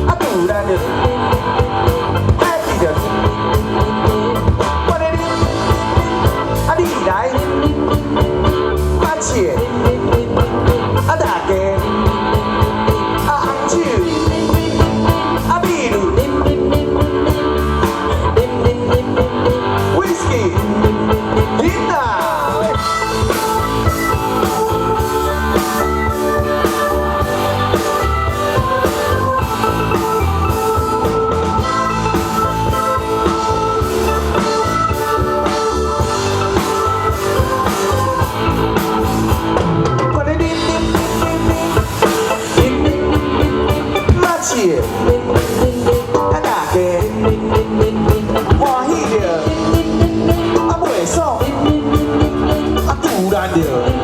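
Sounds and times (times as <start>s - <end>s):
drum kit beat: 0.0s - 54.0s
guitar lines: 0.0s - 54.0s.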